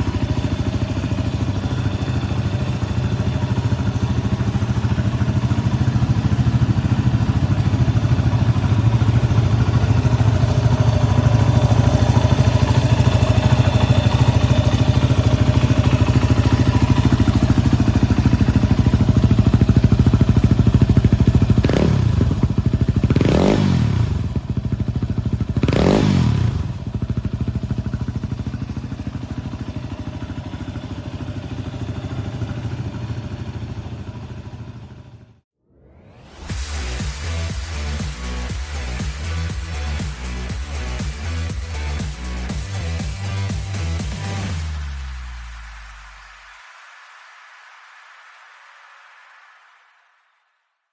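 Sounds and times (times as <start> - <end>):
motorcycle engine idling and revving: 0.0 - 35.5, 36.4 - 46.1.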